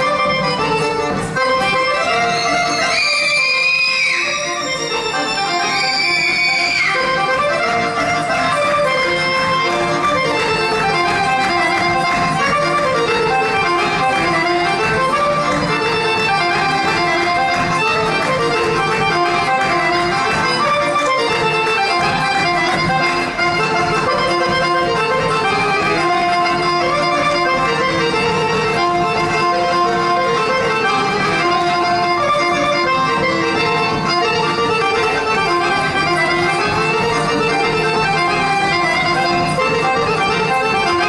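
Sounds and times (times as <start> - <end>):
folk dance music ensemble: 0.0 - 41.0.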